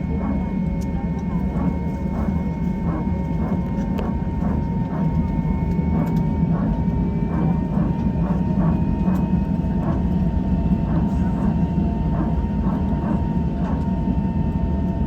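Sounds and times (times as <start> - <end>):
low cabin rumble: 0.0 - 15.0.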